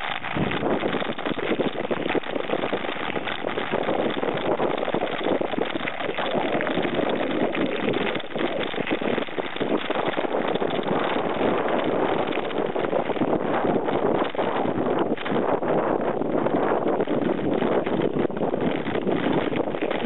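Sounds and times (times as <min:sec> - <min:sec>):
bike tyres crunching on gravel: 0:00.0 - 0:20.0.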